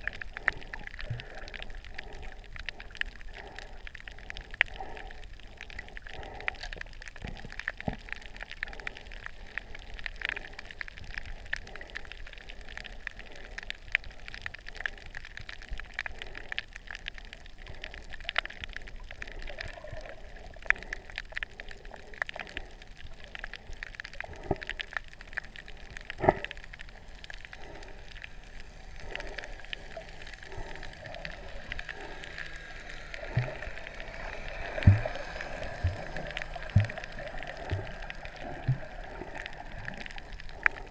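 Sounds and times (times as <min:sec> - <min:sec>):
low water hiss: 0:00.0 - 0:40.9
underwater crackle of clicks: 0:00.0 - 0:40.9.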